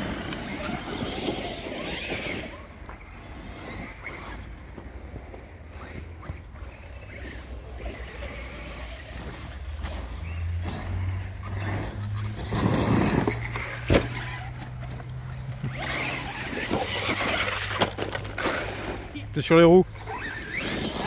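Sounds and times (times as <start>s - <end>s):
rc truck motor: 0.0s - 19.3s, 19.9s - 21.0s.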